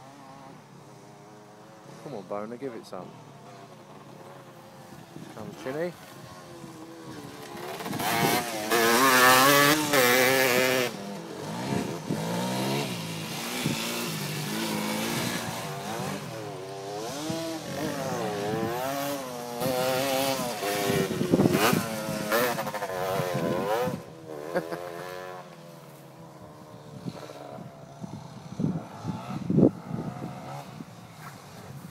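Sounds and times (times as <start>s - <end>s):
motorcycle engines revving: 0.0s - 31.9s.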